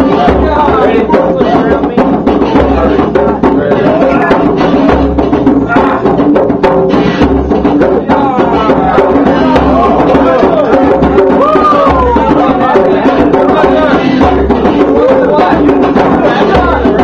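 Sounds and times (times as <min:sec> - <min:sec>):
deep bass drum strokes: 0:00.0 - 0:17.0
hand drums playing rhythm: 0:00.0 - 0:17.0.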